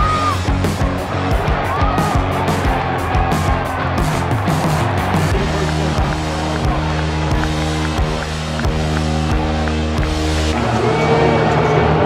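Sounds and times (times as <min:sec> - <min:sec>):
background music with drum beat: 0:00.0 - 0:10.6.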